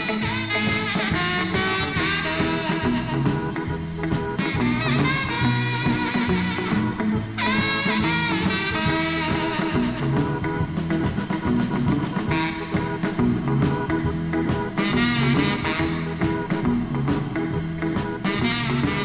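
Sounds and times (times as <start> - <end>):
tenor saxophone: 0.0 - 11.0, 12.2 - 13.6, 14.8 - 16.8, 18.2 - 19.0
bass guitar: 0.0 - 19.0
drums: 0.0 - 19.0
electric lead guitar: 0.0 - 19.0
organ: 0.0 - 19.0.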